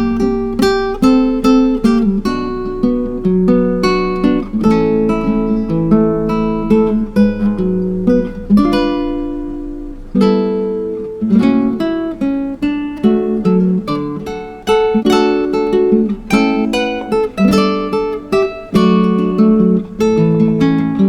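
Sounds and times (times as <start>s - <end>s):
acoustic guitar picking: 0.0s - 21.0s.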